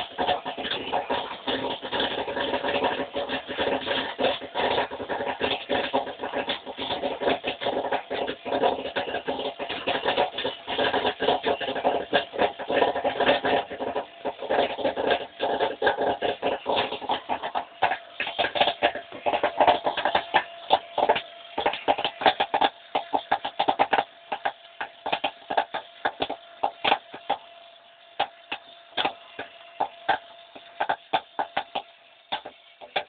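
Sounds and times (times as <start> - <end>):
faint steady hum: 0.0 - 33.0
popcorn kernels popping: 0.0 - 33.0.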